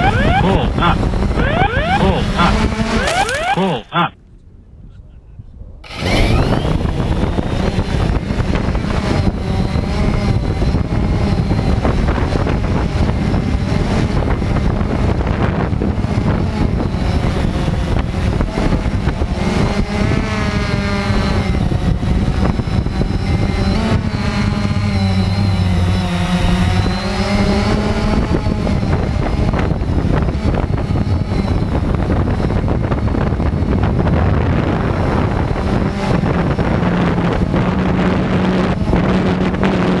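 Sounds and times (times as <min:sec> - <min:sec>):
quadcopter propellers buzzing: 0:00.0 - 0:04.2, 0:05.8 - 0:40.0.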